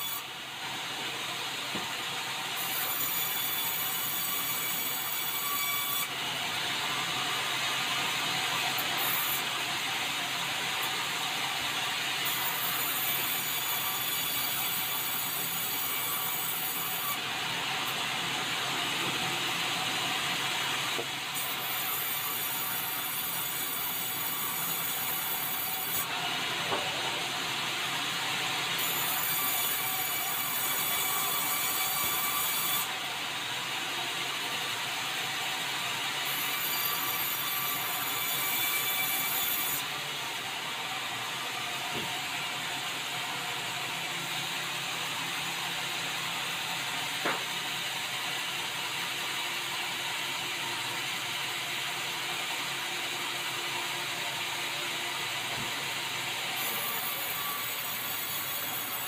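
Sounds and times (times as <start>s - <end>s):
band saw cutting timber: 0.0s - 50.0s, 52.0s - 59.0s.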